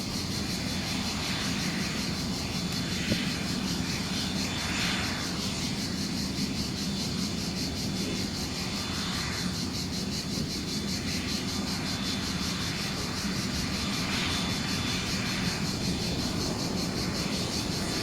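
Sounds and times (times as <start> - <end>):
insects chirping: 0.0 - 18.0
jet engines humming: 0.0 - 18.0.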